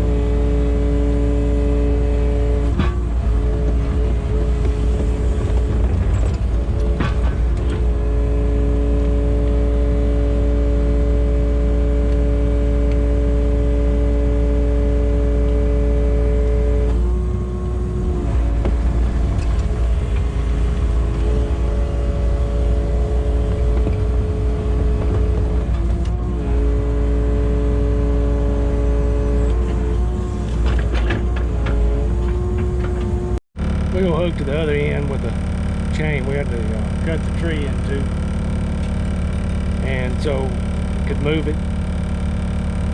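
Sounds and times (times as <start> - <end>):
excavator diesel engine running: 0.0 - 42.9
hydraulic whine: 0.0 - 42.9.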